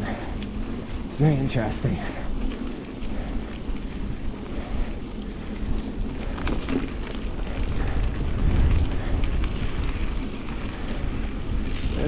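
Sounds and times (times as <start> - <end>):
bike rattling on dirt trail: 0.0 - 12.0
wind buffeting microphone: 0.0 - 12.0.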